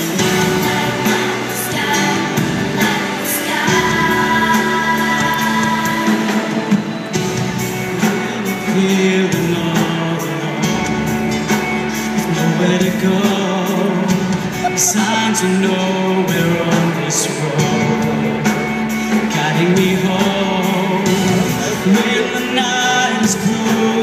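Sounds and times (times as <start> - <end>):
live music with singing: 0.0 - 24.0.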